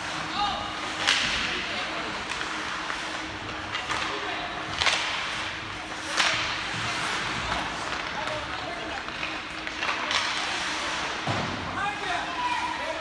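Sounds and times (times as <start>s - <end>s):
hockey sticks striking puck: 0.0s - 13.0s
steady hum of rink: 0.0s - 13.0s.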